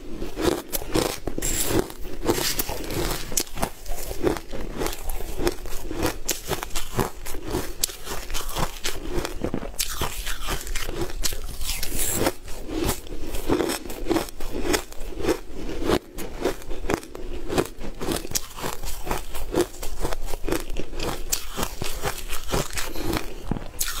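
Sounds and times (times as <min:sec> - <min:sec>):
crunchy food chewing: 0:00.0 - 0:24.0.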